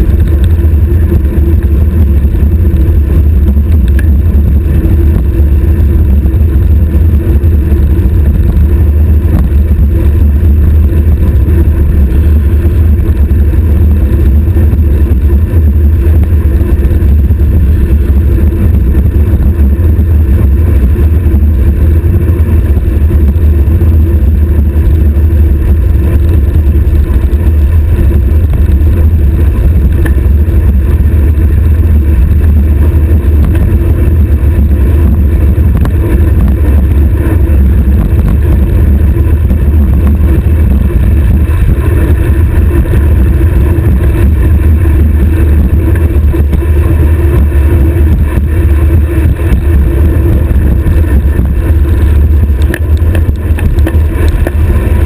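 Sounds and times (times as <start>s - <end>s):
wind buffeting: 0.0s - 55.0s.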